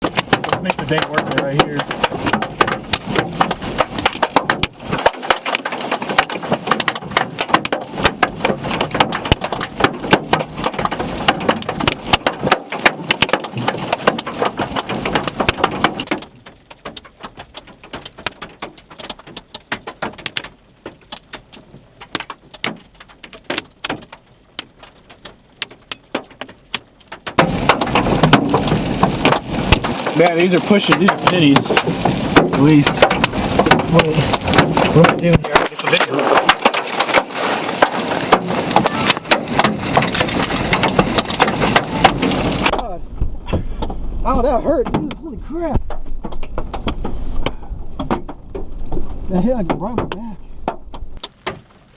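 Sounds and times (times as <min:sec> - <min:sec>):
hail drumming on a vehicle: 0:00.0 - 0:51.9.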